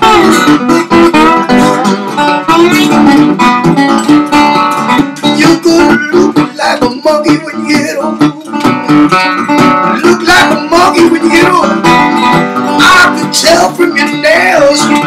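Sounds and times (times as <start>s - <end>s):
slide guitar playing: 0.0s - 15.0s.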